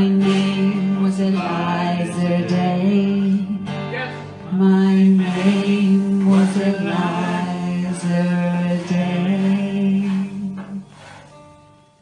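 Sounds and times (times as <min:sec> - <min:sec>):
man and woman singing: 0:00.0 - 0:11.0
acoustic guitar: 0:00.0 - 0:12.0.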